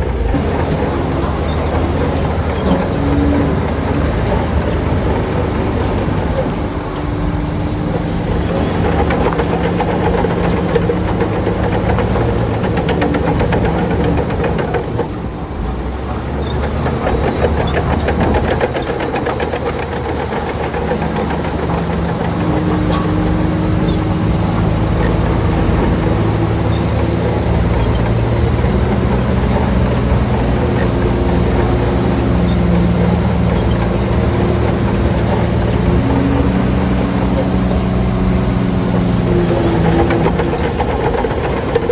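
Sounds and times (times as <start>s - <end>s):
heavy diesel engine running: 0.0s - 41.9s
rapid clatter: 0.0s - 41.9s.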